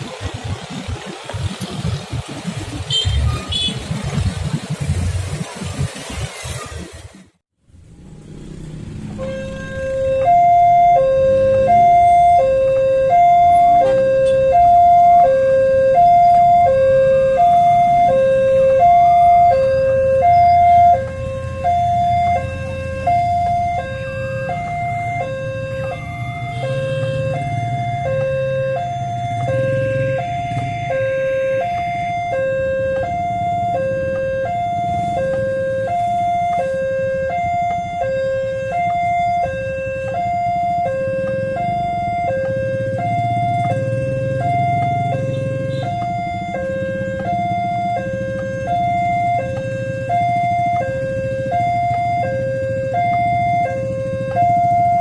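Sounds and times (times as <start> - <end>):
road traffic rumbling: 0.0 - 55.0.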